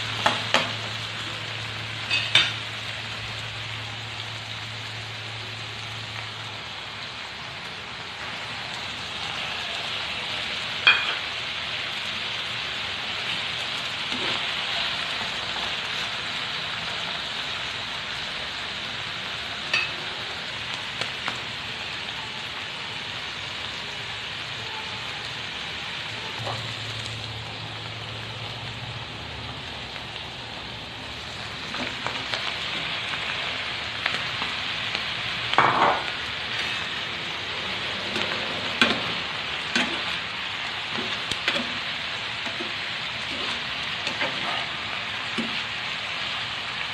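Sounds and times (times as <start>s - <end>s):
food sizzling in pan: 0.0s - 46.9s.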